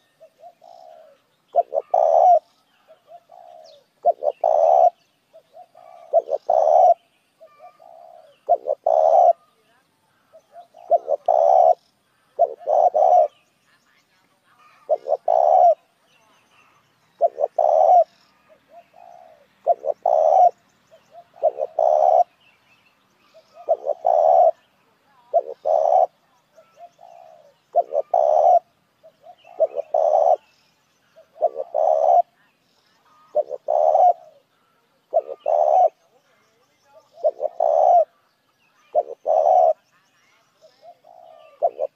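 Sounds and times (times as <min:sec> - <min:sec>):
dove cooing: 0:00.0 - 0:09.6, 0:10.2 - 0:13.4, 0:14.6 - 0:16.0, 0:17.1 - 0:22.4, 0:23.2 - 0:38.2, 0:38.8 - 0:40.0, 0:40.6 - 0:41.9.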